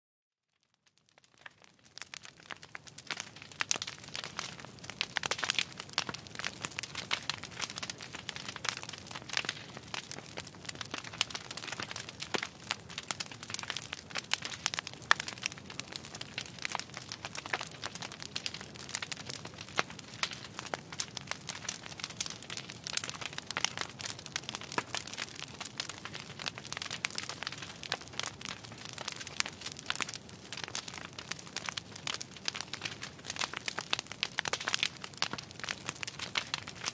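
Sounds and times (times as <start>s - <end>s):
wood fire crackling: 0.5s - 36.9s.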